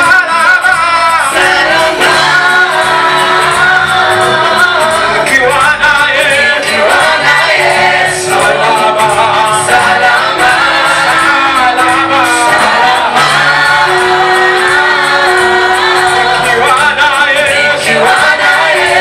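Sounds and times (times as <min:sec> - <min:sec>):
group of voices singing: 0:00.0 - 0:19.0
instrumental backing: 0:00.0 - 0:19.0
held steady note: 0:01.3 - 0:19.0.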